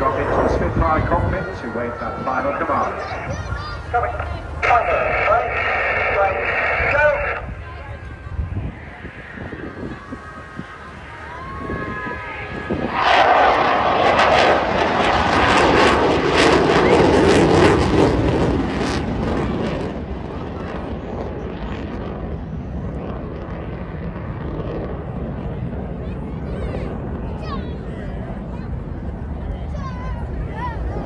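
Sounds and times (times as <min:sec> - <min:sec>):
jet engines roaring past: 0:00.0 - 0:31.0.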